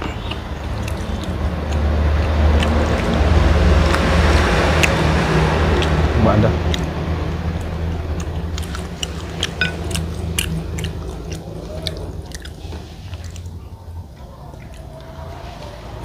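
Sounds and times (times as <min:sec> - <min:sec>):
mouth chewing rice: 0:00.0 - 0:16.0
steady low hum: 0:00.0 - 0:16.0.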